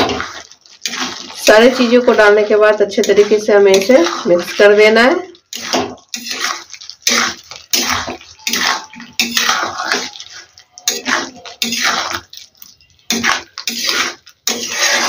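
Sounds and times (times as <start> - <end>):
metal spatula scraping a pan: 0.0 - 15.0.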